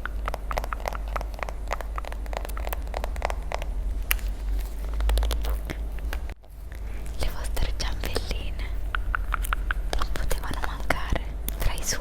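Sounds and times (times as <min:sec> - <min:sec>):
low background hum: 0:00.0 - 0:12.0
mouth clicks and crackles: 0:00.0 - 0:12.0.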